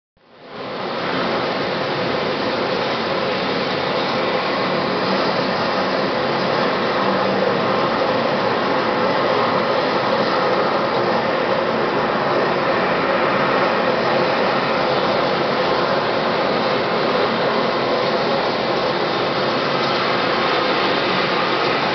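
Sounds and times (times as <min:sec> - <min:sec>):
helicopter turbine and rotor noise: 0:00.2 - 0:21.9.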